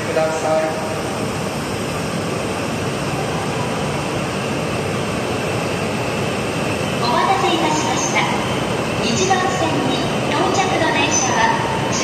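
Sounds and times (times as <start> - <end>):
train pulling into station: 0.0 - 12.0.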